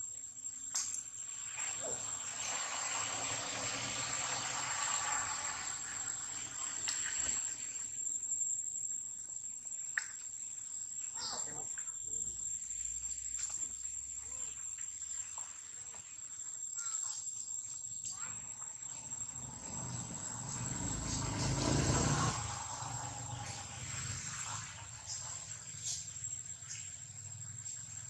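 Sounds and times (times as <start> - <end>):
insect chirps: 0.0 - 28.0
insect drone: 0.0 - 28.0.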